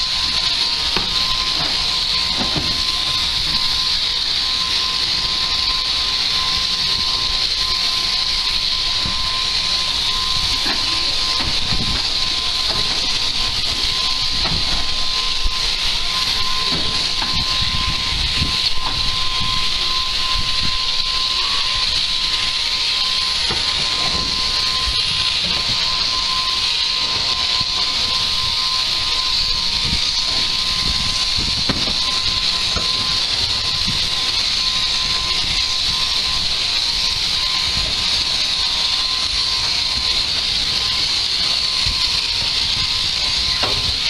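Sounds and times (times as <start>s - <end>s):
electric shears buzzing: 0.0s - 44.0s.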